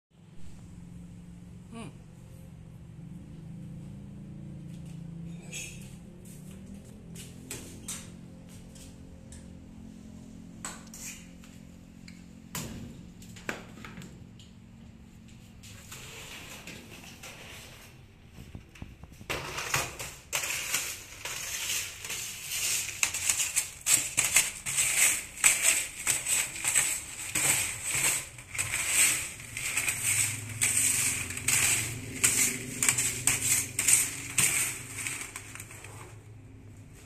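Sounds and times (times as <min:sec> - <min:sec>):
grinding machine crackling and rattling: 0:06.2 - 0:37.0.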